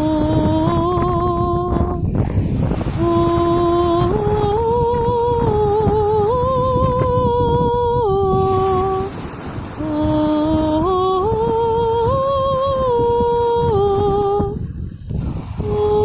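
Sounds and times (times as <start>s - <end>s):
woman humming wordless notes: 0.0s - 2.0s, 3.0s - 9.1s, 9.8s - 14.6s
steady low rumble: 0.0s - 16.0s.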